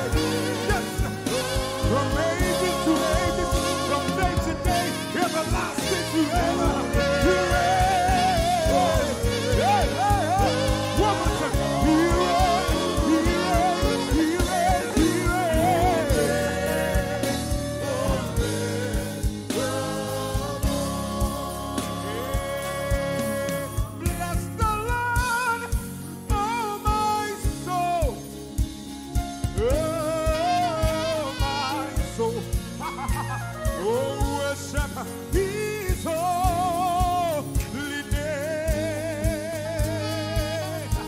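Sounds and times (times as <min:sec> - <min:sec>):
bass notes: 0:00.0 - 0:41.0
drum beat: 0:00.0 - 0:41.0
people singing gospel: 0:00.0 - 0:41.0.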